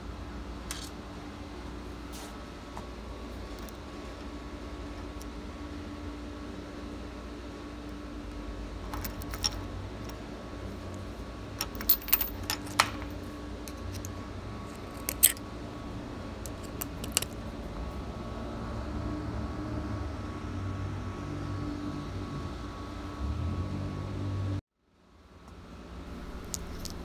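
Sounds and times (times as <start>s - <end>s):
low shop hum: 0.0s - 27.0s.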